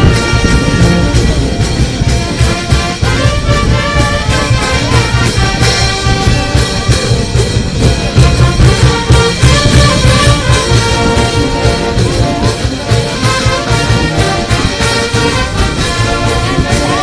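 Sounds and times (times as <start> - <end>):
bass drum and cymbals: 0.0 - 17.0
trumpets and trombones: 0.0 - 17.0.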